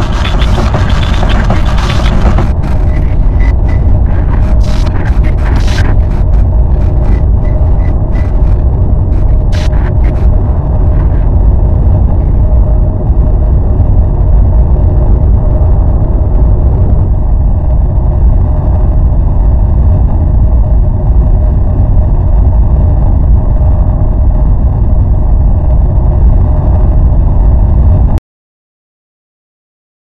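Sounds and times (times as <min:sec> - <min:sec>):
car travelling low rumble: 0:00.0 - 0:28.2.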